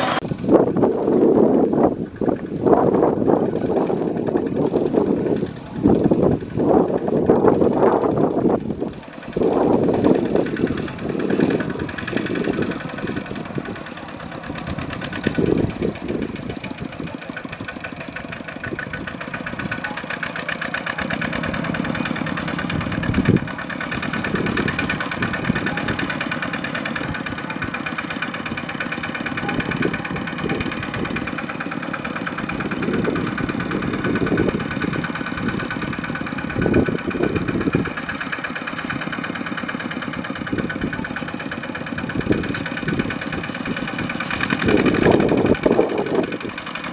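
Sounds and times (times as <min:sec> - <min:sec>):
diesel tractor engine chugging: 0:00.0 - 0:46.9.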